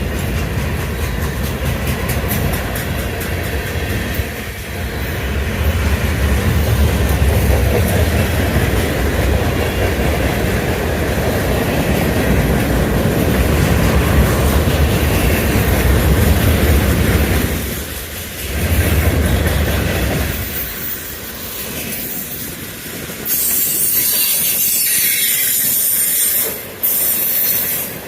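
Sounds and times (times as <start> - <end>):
freight train rumbling on rails: 0.0 - 28.0.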